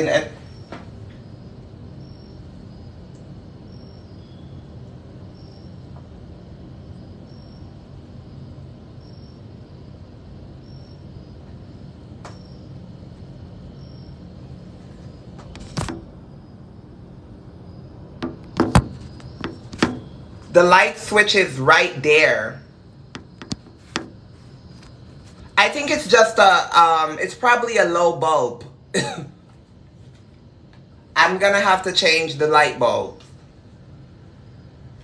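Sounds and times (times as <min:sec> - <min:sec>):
low room hum: 0:00.0 - 0:35.0.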